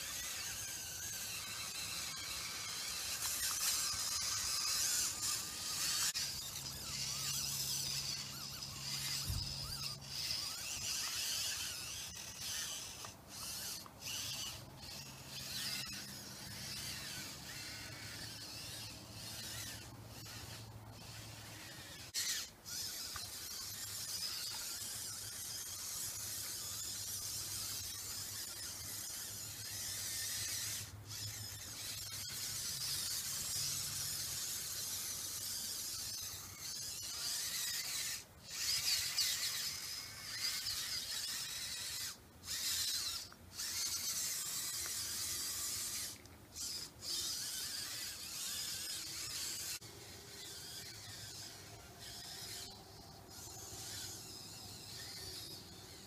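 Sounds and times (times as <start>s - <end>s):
electric motors whining: 0.0s - 56.0s.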